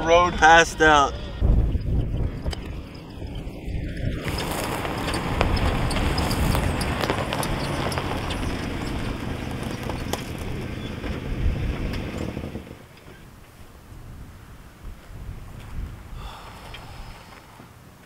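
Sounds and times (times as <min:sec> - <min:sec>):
truck engine and tyre rumble: 0:00.0 - 0:18.0.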